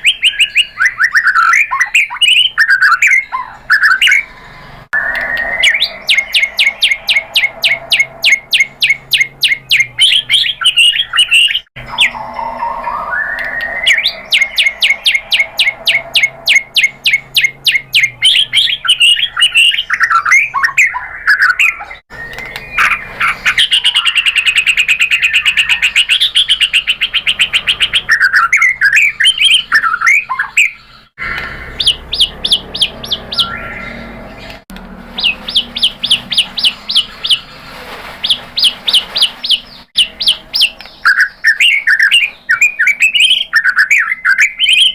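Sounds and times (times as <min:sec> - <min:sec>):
songbird singing trills: 0:00.0 - 0:34.6, 0:35.2 - 0:44.9.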